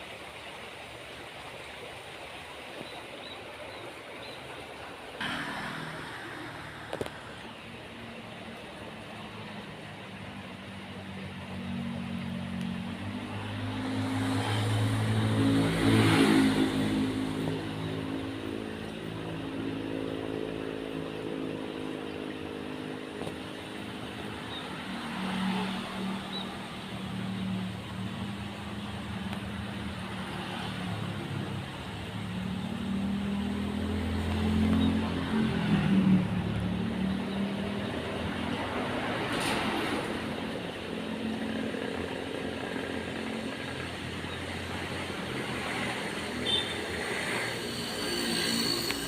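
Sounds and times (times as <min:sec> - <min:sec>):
vehicles passing on road: 0:00.0 - 0:49.0.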